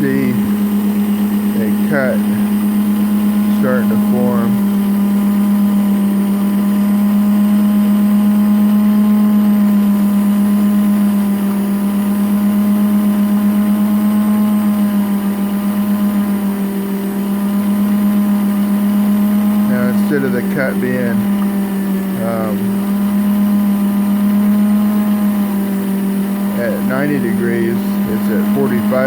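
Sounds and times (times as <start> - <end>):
cutter cutting into wood: 0.0 - 29.0
lathe motor humming: 0.0 - 29.0.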